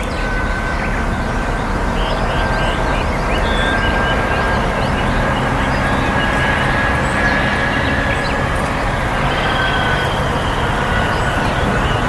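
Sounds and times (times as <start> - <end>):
loud traffic rumbling: 0.0 - 12.0
thin steady whistling tone: 0.0 - 12.0.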